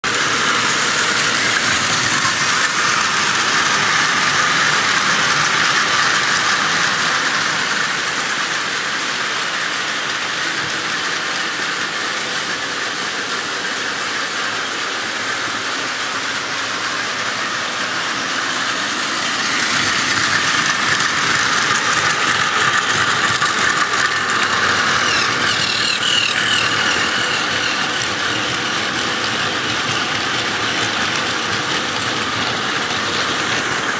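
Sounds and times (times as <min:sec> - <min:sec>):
toy train wheels rattling on rails: 0:00.0 - 0:33.9
toy train motors whirring: 0:00.1 - 0:33.9.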